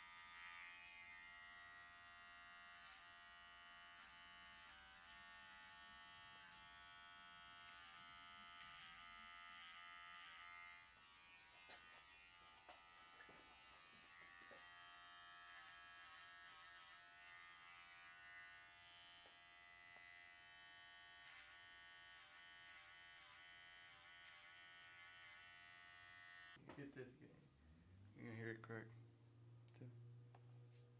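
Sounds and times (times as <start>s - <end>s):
electric hair trimmer buzzing: 0.0s - 26.6s.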